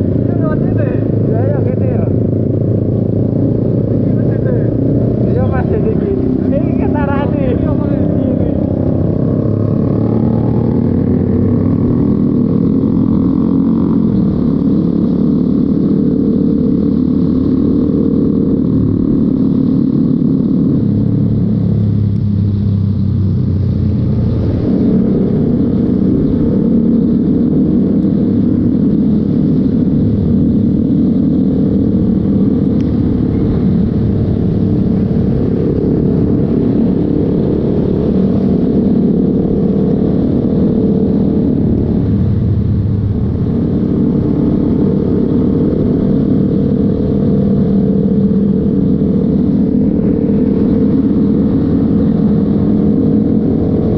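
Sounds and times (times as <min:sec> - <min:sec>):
motorcycle engine and road noise: 0:00.0 - 0:53.9.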